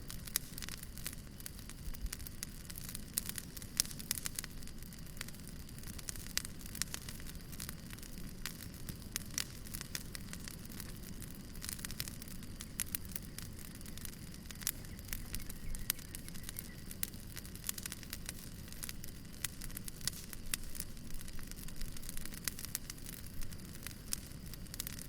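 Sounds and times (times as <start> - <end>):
low rumble of burning: 0.0 - 25.0
wood fire crackling: 0.0 - 25.0.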